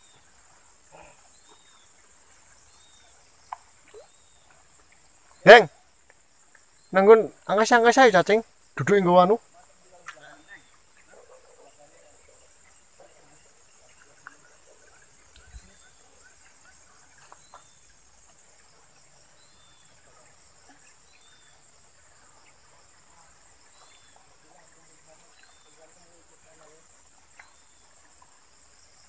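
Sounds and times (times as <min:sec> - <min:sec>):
faint bird chirps: 0:00.0 - 0:05.8, 0:09.8 - 0:22.8, 0:23.6 - 0:28.3
insect chorus trilling: 0:00.0 - 0:29.0.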